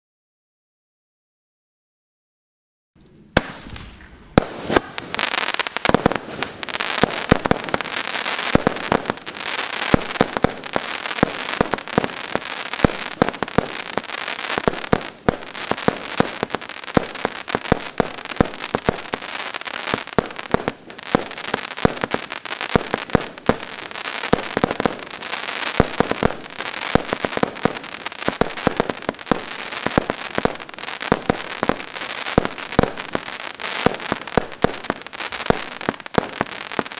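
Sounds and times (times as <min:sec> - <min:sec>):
fireworks crackle: 0:03.0 - 0:36.9
fireworks sharp reports: 0:03.3 - 0:36.9.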